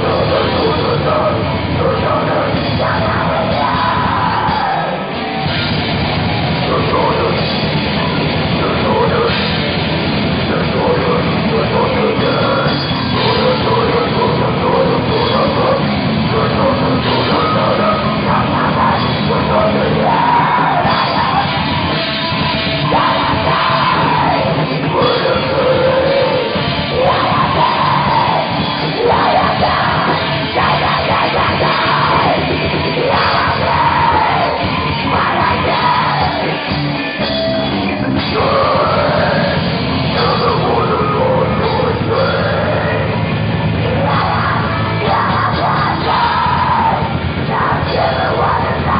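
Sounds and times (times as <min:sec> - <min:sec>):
heavy metal band playing live: 0:00.0 - 0:48.9
person singing: 0:00.0 - 0:48.9.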